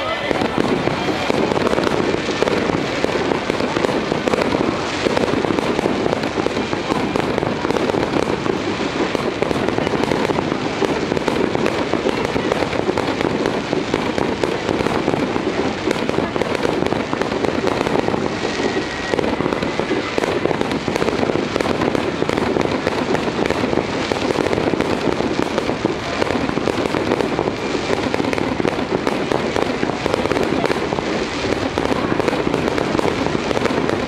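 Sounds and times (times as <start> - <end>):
fireworks popping and crackling: 0.0 - 34.0.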